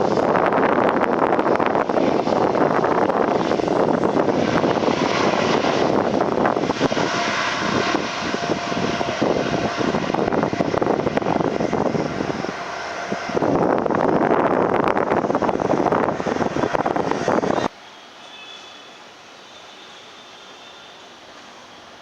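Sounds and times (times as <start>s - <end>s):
jet engines roaring: 0.0s - 17.8s
faint engine whine: 0.0s - 22.0s.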